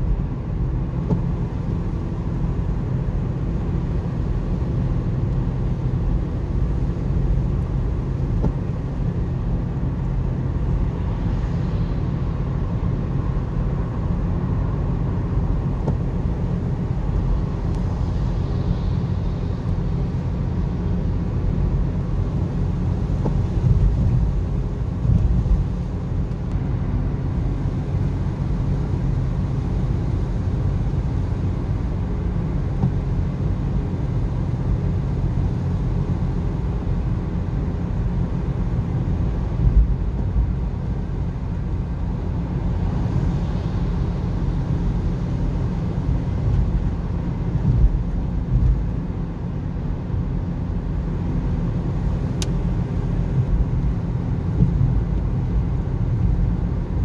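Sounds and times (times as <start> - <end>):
car interior road noise: 0.0 - 57.0.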